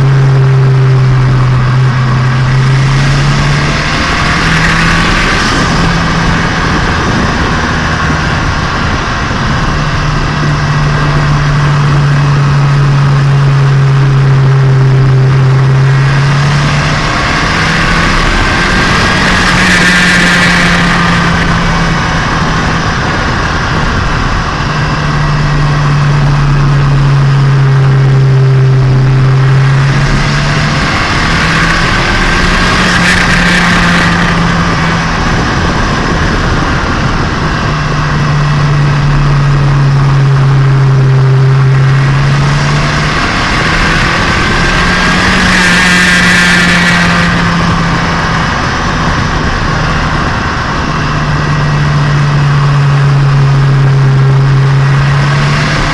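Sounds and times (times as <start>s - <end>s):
car engine while driving: 0.0s - 55.9s.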